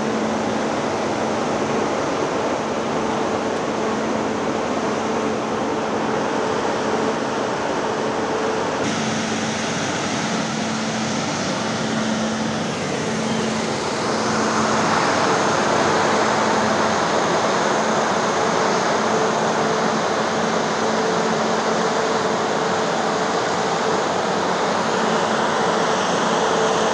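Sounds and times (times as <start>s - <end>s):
large fans rushing air: 0.0s - 26.9s.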